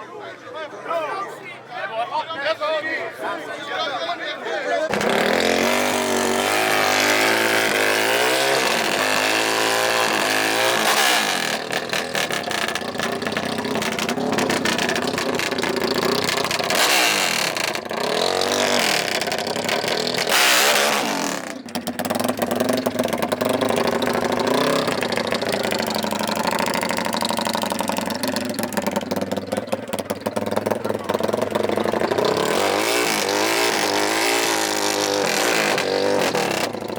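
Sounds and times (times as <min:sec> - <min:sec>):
dirt bike engines revving: 0:01.2 - 0:36.9.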